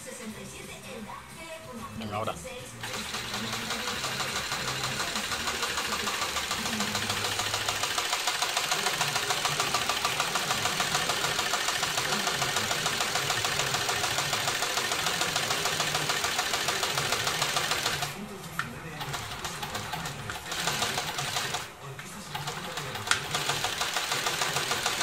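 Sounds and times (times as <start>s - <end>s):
sewing machine clatter: 2.8s - 18.2s, 19.0s - 25.0s.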